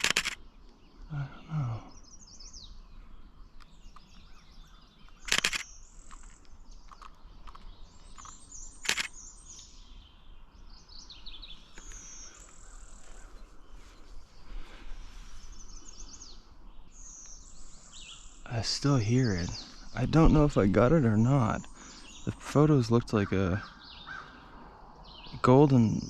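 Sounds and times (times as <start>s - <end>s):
chirping birdsong: 0.0s - 26.0s.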